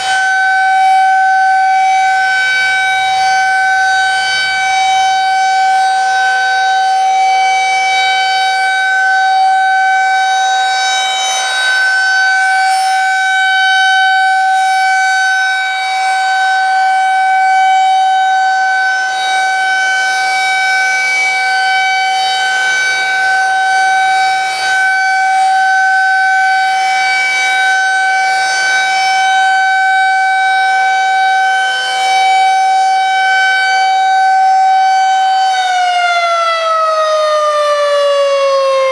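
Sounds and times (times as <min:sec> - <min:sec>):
civil defense siren wailing: 0:00.0 - 0:38.9.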